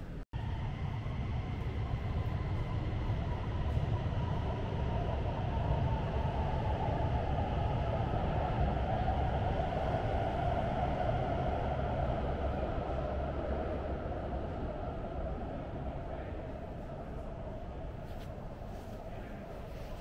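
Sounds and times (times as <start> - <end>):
metro station low rumble and hiss: 0.0 - 20.0.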